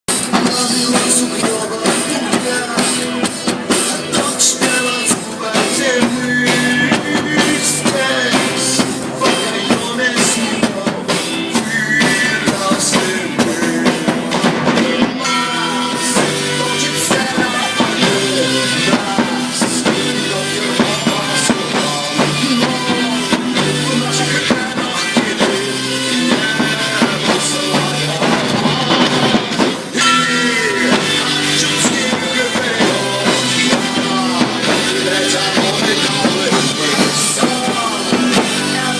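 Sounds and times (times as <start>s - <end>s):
drum kit beat: 0.1s - 38.9s
electric guitar: 0.1s - 38.9s
person singing: 0.1s - 38.9s.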